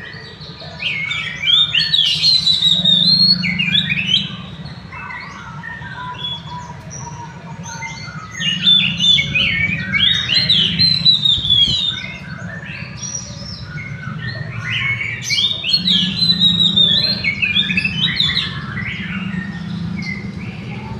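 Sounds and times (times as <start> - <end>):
songbirds chirping and trilling: 0.0 - 20.9.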